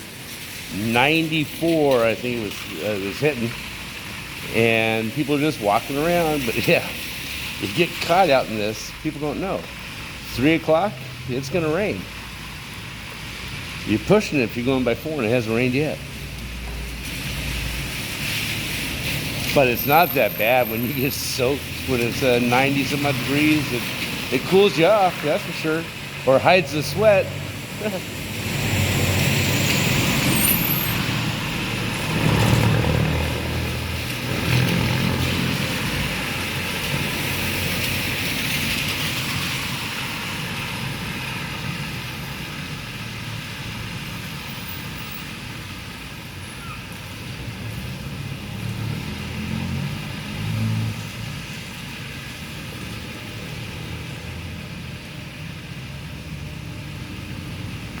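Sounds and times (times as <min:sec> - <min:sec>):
cars passing on wet street: 0:00.0 - 0:58.0
steady rain: 0:00.0 - 0:58.0.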